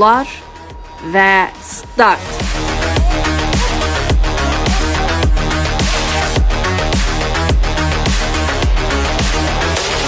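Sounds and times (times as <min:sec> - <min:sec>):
electronic music with driving beat: 0:00.1 - 0:10.0.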